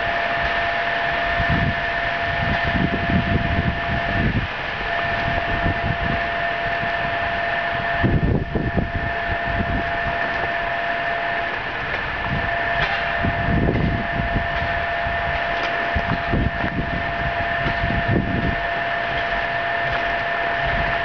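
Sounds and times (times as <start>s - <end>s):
steam locomotive hissing: 0.0s - 21.0s
wind rumble on microphone: 0.0s - 21.0s.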